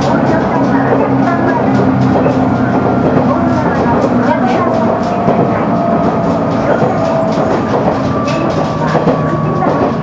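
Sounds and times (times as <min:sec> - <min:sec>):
railcar engine and wheels drone: 0:00.0 - 0:10.0
track clicks: 0:00.0 - 0:10.0.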